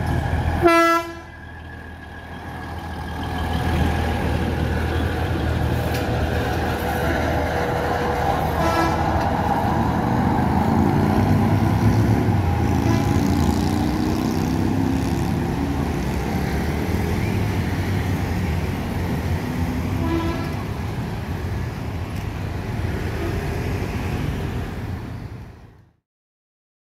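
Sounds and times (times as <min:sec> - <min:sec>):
railbus running on track: 0:00.0 - 0:26.0
road traffic noise: 0:00.0 - 0:26.0.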